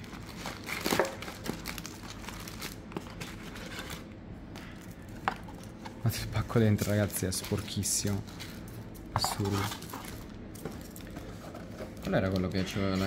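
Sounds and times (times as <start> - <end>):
card packs crinkling and rustling: 0.0 - 13.0.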